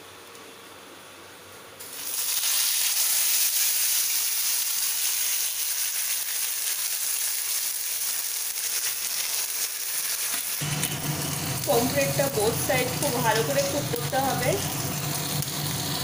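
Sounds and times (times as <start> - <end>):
fish sizzling in hot oil: 1.8 - 16.0.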